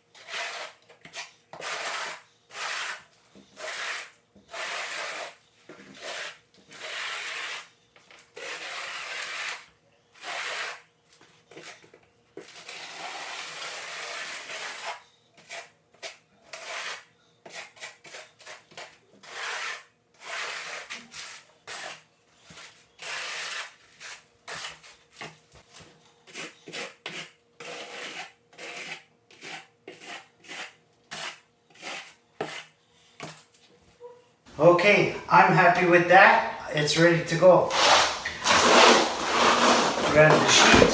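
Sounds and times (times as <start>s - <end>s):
trowel scraping mortar on floor: 0.1s - 10.9s, 11.5s - 33.4s, 37.6s - 40.9s.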